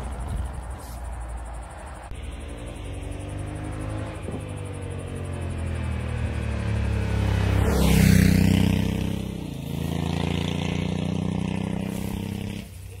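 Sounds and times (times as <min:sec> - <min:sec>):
motorcycle engine passing by: 0:02.1 - 0:13.0.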